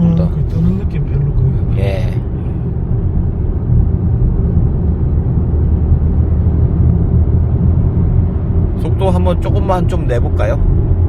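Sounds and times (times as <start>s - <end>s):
car engine cruising: 0.0s - 11.0s
road and tyre noise in car cabin: 0.0s - 11.0s.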